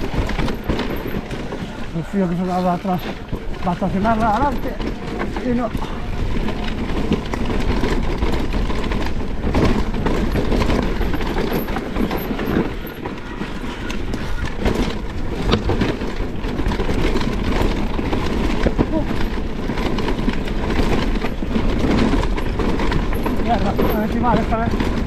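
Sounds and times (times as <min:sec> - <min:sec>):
bike knocking and rattling: 0:00.0 - 0:25.0
bike tyres rolling over dirt: 0:00.0 - 0:25.0.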